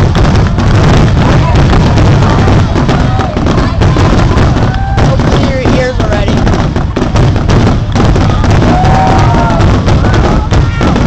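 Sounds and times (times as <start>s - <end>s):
fireworks bangs and crackling: 0.0s - 11.0s
fireworks whistling: 0.0s - 11.0s.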